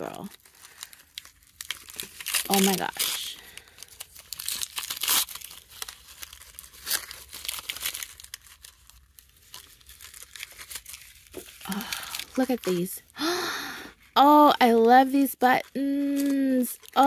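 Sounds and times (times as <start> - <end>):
wrapping paper tearing and crinkling: 0.0 - 17.0.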